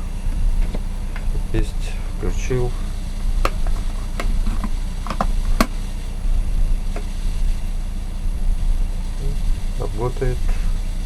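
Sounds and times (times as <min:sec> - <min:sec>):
electric kettle heating rumble: 0:00.0 - 0:11.0.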